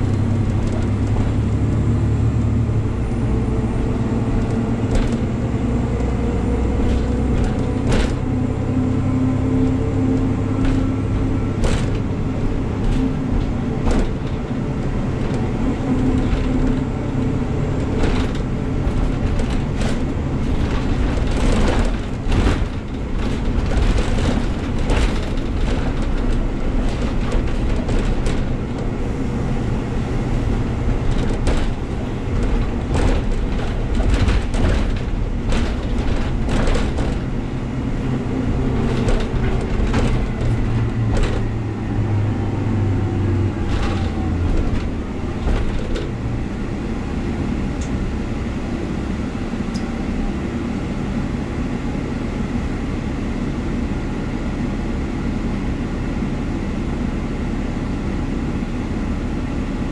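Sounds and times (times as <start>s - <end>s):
bus engine and road rumble: 0.0s - 59.9s
rattles and clunks of bus body: 0.0s - 59.9s.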